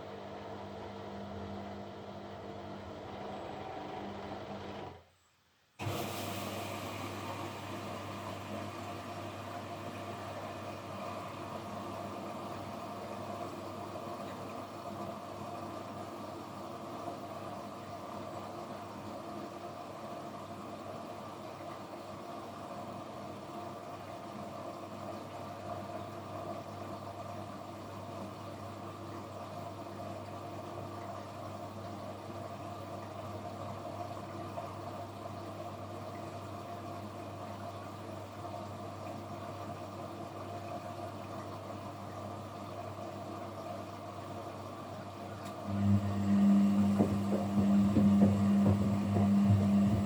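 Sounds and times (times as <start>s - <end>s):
washing machine motor hum: 0.0s - 5.1s, 5.8s - 50.0s.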